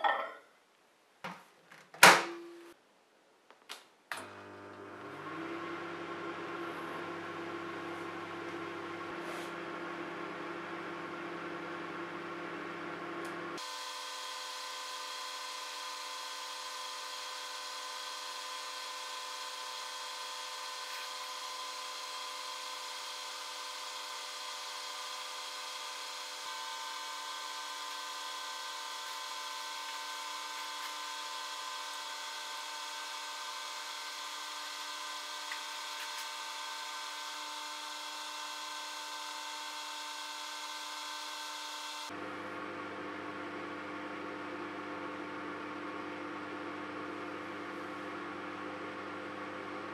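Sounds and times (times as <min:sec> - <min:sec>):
microwave oven humming: 0:04.1 - 0:49.9.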